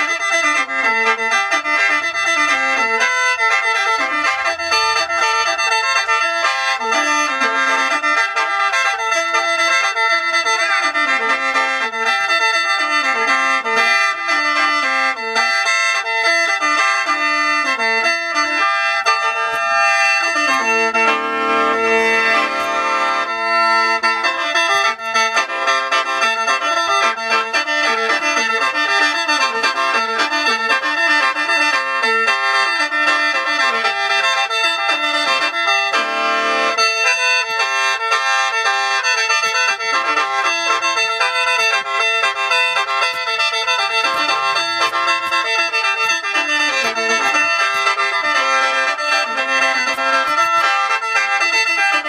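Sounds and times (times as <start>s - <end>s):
instrumental music: 0.0s - 52.0s.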